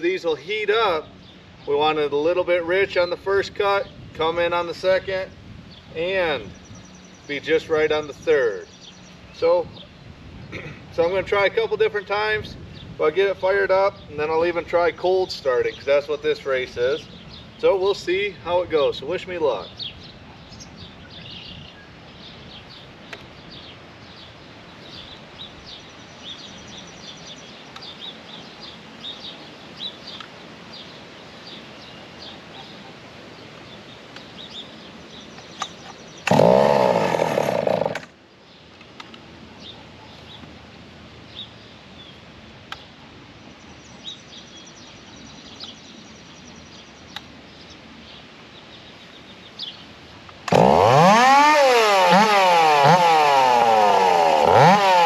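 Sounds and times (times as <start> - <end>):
birds chirping: 0.0 - 55.0
outdoor background noise: 0.0 - 55.0.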